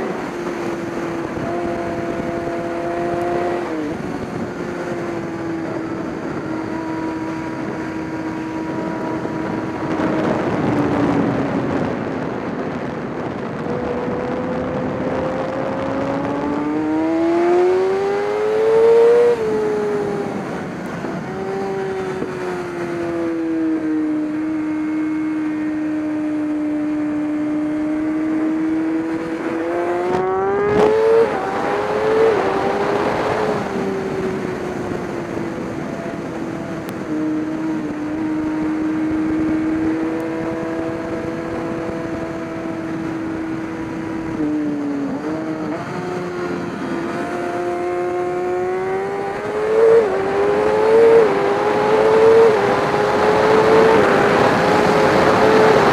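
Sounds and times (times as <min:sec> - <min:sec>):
race car engine revving: 0:00.0 - 0:55.9
rush of noise: 0:00.0 - 0:55.9.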